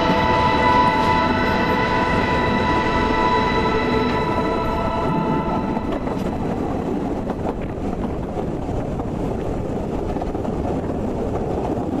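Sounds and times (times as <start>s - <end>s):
train carriages rumbling on track: 0.0s - 12.0s
wind on microphone: 0.0s - 12.0s.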